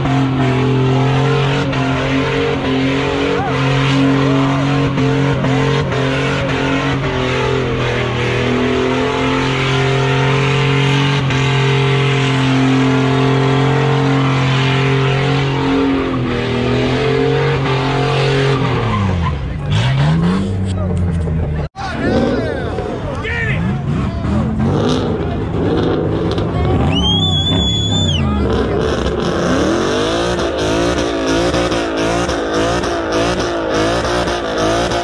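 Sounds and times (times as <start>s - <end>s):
truck engine revving: 0.0s - 35.0s
tyres squealing on asphalt: 0.0s - 35.0s.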